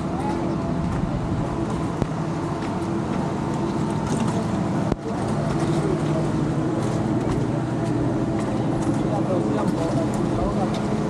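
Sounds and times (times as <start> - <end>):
road and traffic noise: 0.0 - 11.0
vehicle engine running: 0.0 - 11.0.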